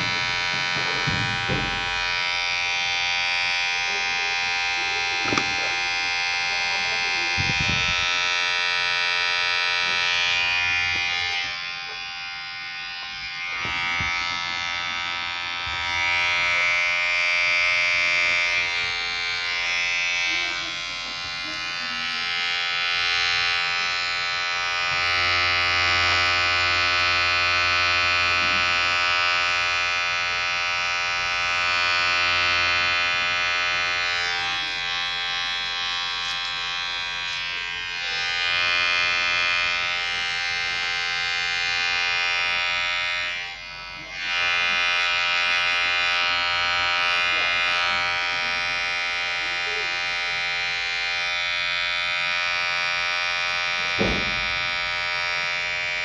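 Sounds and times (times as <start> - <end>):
electric hair clipper buzzing: 0.0 - 56.0.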